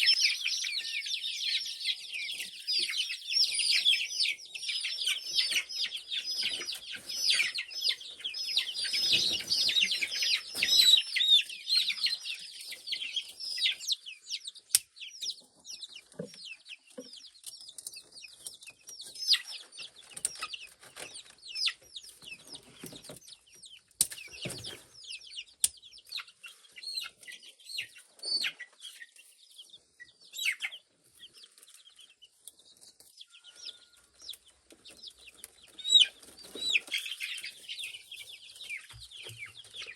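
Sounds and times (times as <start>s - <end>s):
chicks peeping and clucking: 0.0s - 39.9s.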